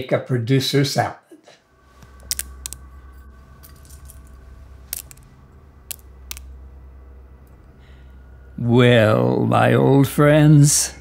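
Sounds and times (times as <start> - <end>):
faint sustained tones: 1.6 - 11.0
steady low hum: 1.6 - 11.0.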